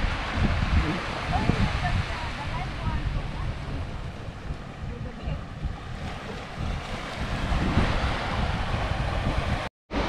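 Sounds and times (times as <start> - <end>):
small waves on beach: 0.0 - 10.0
wind buffeting microphone: 0.0 - 10.0.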